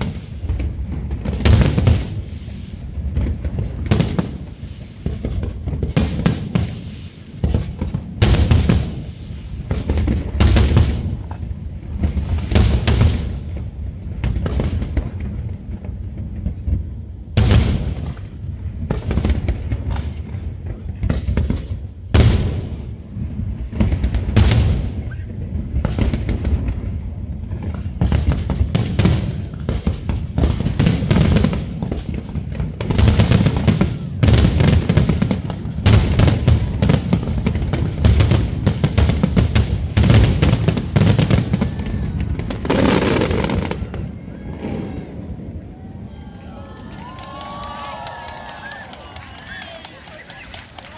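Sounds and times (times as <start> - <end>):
low rumble of booms: 0.0 - 45.6
fireworks bursting: 0.0 - 50.9.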